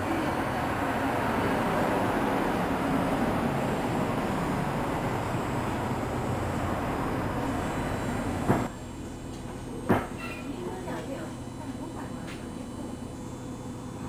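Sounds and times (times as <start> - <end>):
tram mechanical drone: 0.0 - 14.0.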